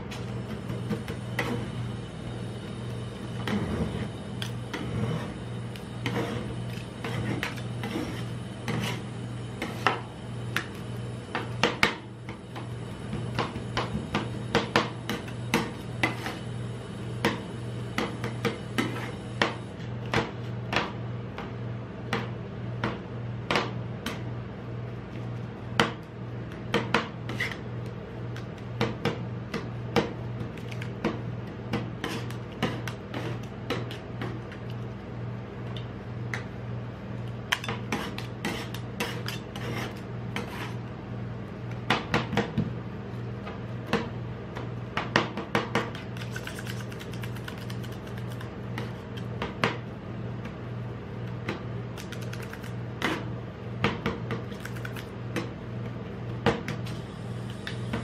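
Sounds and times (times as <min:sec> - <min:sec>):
constant low hum: 0:00.0 - 0:58.0.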